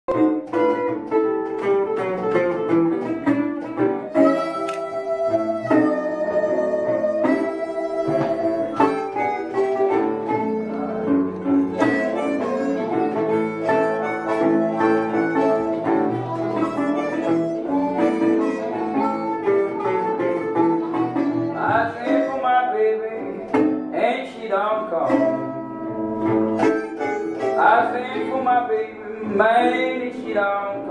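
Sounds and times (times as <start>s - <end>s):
blues harmonica: 0.1s - 24.0s, 24.8s - 30.9s
fingerpicked resonator guitar: 0.1s - 30.9s.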